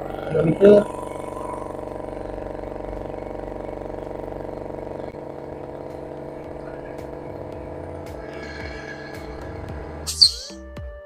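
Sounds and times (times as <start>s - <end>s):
air compressor humming: 0.0s - 10.6s.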